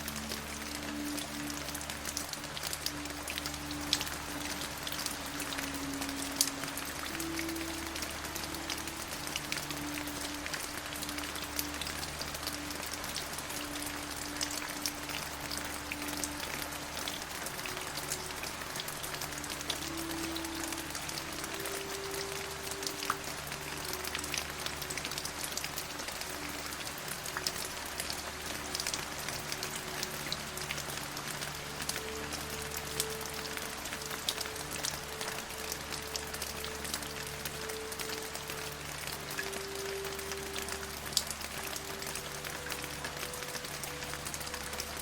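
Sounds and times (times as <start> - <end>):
calm ambient music: 0.0 - 45.0
raindrop ticks: 0.0 - 45.0
steady rain: 0.0 - 45.0.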